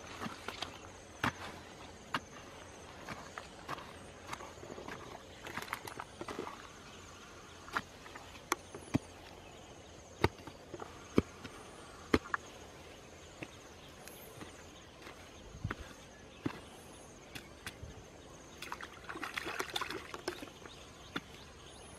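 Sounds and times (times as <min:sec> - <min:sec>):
digging stick jabbing wet earth: 0:00.0 - 0:21.9.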